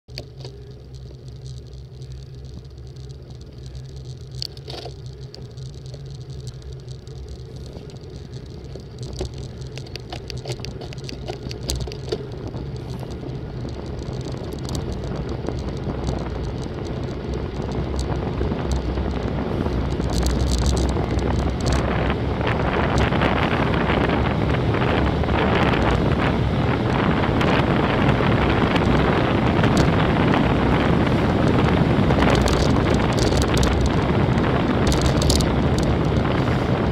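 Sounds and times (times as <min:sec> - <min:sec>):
tyre noise on asphalt: 0:00.0 - 0:36.9
light clicks and rattles: 0:00.1 - 0:26.2, 0:26.8 - 0:36.9
wind rushing over microphone: 0:05.8 - 0:36.9.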